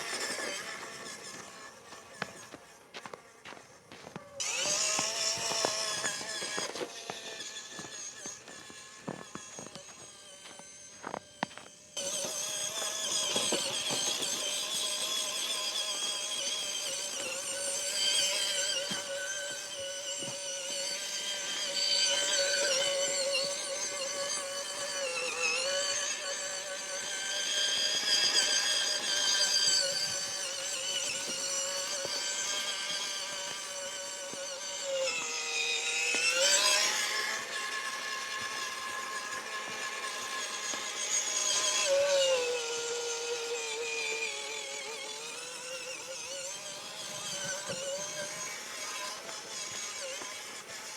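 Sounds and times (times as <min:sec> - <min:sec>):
toy car electric motor whining: 0:00.0 - 0:50.9.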